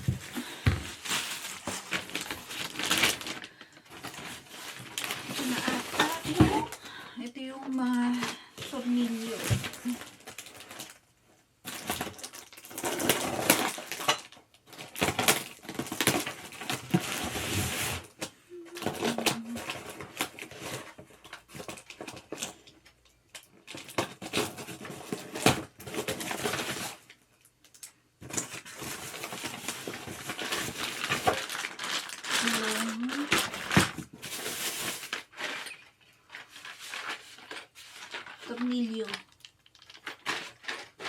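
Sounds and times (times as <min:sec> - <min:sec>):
packaging rustling: 0:00.0 - 0:11.0, 0:11.6 - 0:41.0.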